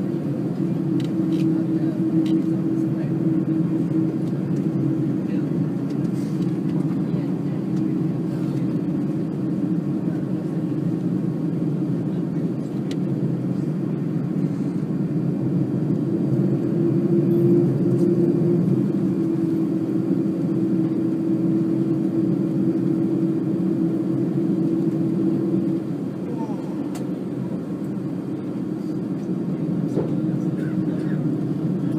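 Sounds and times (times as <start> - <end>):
jet engines rumbling: 0.0 - 31.9.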